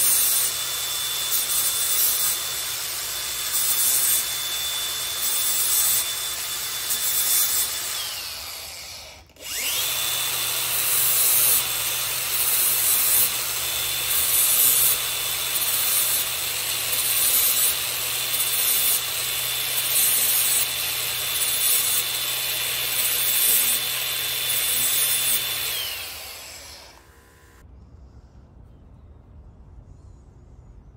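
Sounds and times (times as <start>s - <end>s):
angle grinder whining: 0.0s - 27.6s.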